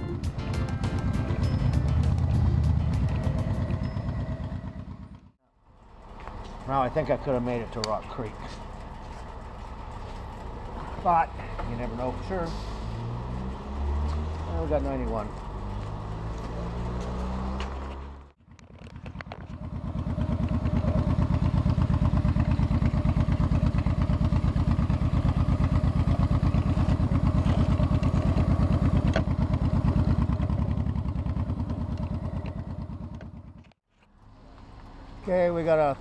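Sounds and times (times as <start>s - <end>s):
motorcycle engine running: 0.0s - 12.5s, 13.3s - 33.8s.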